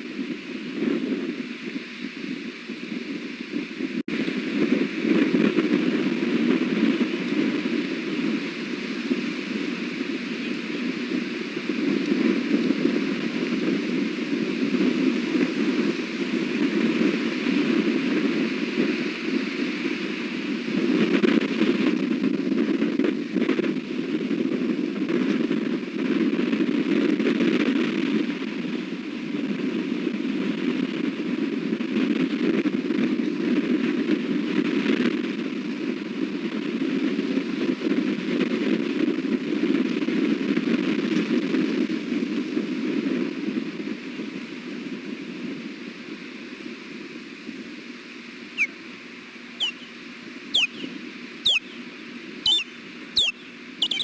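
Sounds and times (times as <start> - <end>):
strong wind on microphone: 0.0 - 54.0.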